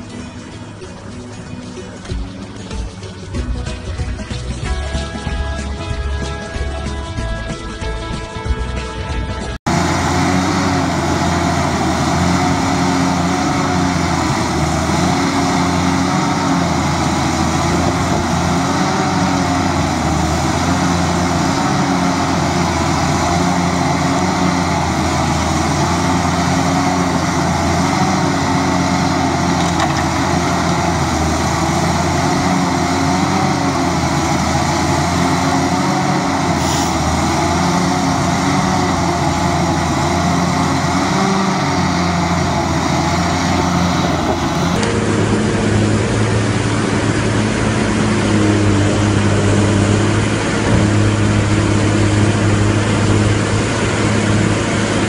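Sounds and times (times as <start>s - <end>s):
wheel loader diesel engine: 0.0s - 55.0s
processing machine droning: 9.6s - 55.0s.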